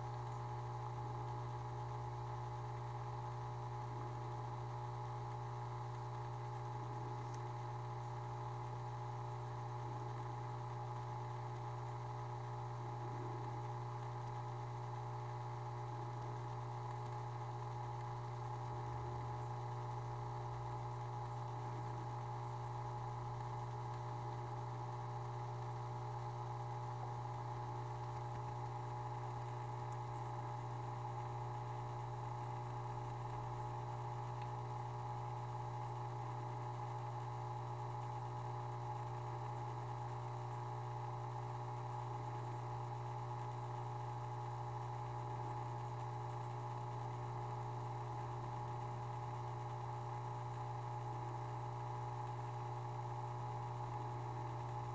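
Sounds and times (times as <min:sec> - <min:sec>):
aquarium pump humming: 0:00.0 - 0:54.9.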